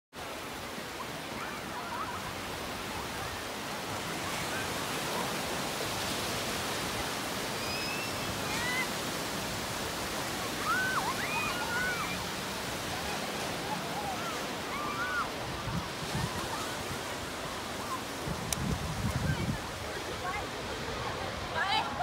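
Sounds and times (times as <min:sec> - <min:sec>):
small waves breaking on beach: 0:00.1 - 0:22.0.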